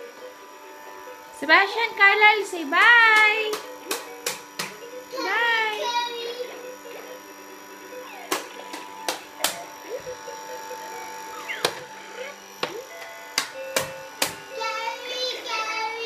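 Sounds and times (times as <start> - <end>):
faint electronic hum: 0.0 - 16.0.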